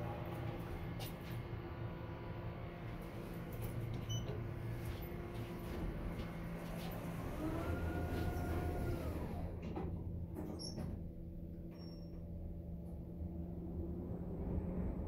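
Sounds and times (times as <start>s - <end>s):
elevator door motor whining: 0.0s - 13.6s
elevator machine humming: 0.0s - 15.0s.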